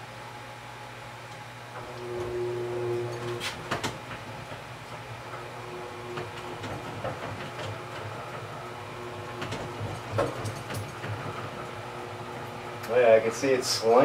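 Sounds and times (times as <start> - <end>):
extractor motor hum: 1.7 - 14.0.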